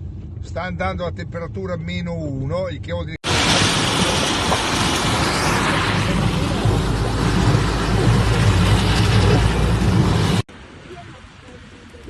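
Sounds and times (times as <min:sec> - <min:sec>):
vehicle road noise: 0:00.0 - 0:12.0.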